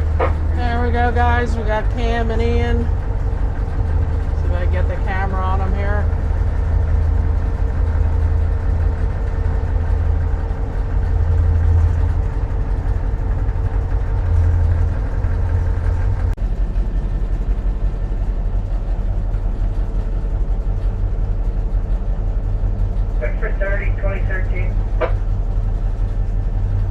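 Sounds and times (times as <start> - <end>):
diesel locomotive engine drone: 0.0 - 26.9
mid-pitched whine: 0.0 - 26.9.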